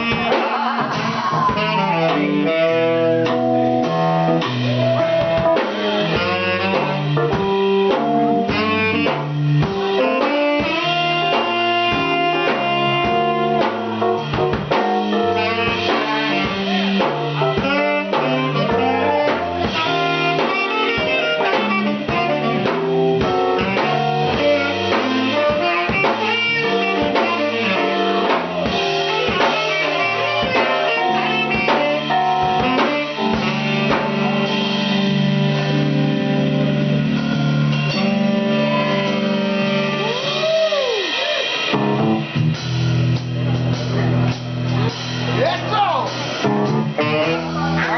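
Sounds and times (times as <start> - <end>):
bass line: 0.0 - 47.9
instrumental music with beat: 0.0 - 47.9.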